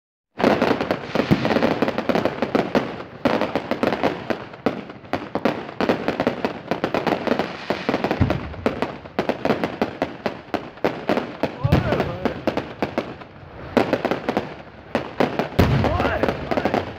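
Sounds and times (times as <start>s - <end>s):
fireworks crackling and banging: 0.3s - 16.9s.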